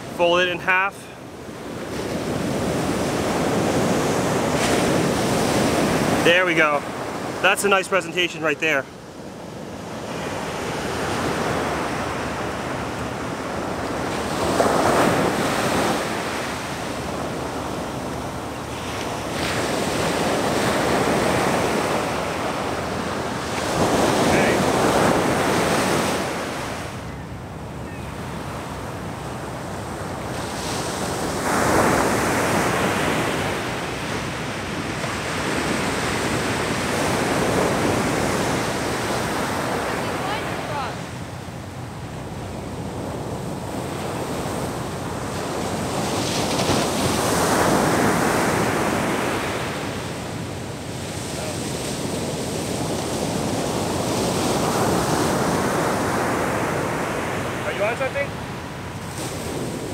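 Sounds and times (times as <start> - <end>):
surf breaking on beach: 1.6 - 27.0, 28.3 - 41.2, 42.7 - 59.9.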